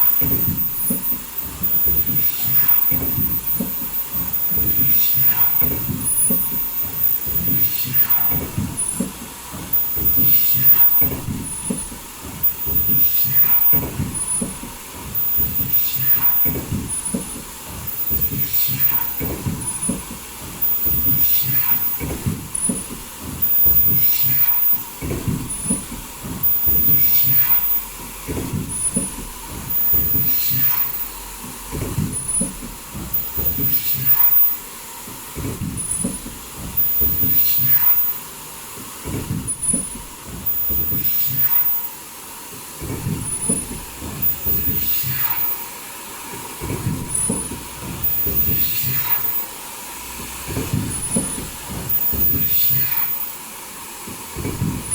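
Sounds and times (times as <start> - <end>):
high-pitched welding whine: 0.0 - 42.2, 43.0 - 46.4, 47.0 - 53.8
machine clatter: 0.0 - 54.9.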